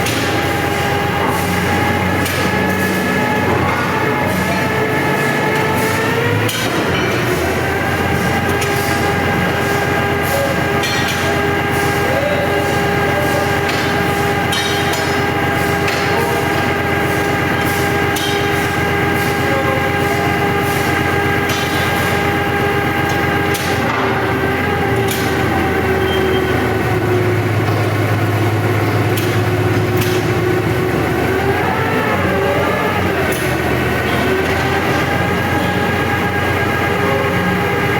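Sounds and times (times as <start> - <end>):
sawmill machinery whining: 0.0 - 37.9.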